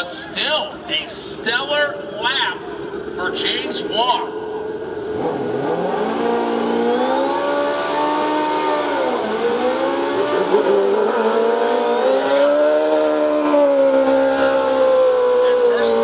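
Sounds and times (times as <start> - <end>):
motorcycle engine revving hard: 0.9 - 16.0.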